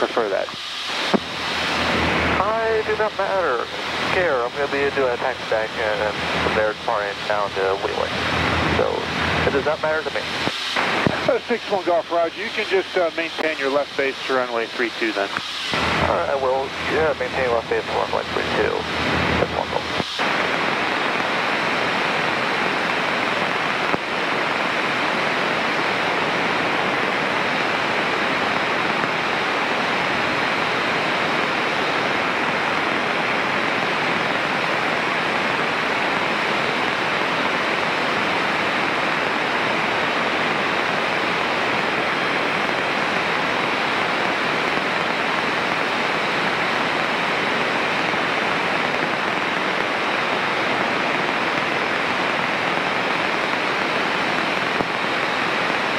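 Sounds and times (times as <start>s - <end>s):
airplane cabin noise: 0.0s - 55.9s.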